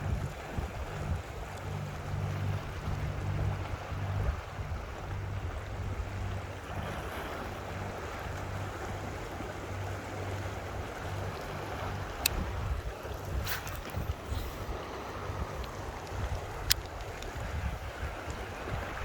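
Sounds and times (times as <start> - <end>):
motor humming low: 0.0 - 19.0
rushing wind and water: 0.0 - 19.0
wind buffeting microphone: 0.0 - 19.0.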